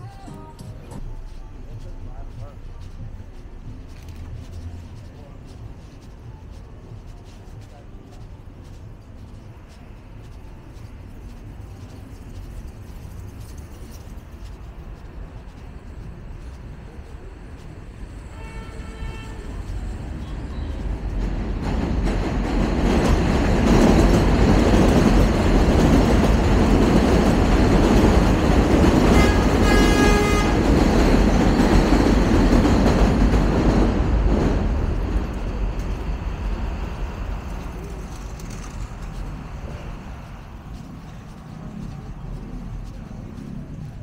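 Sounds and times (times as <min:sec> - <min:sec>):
elevated train passing: 0:00.0 - 0:44.0.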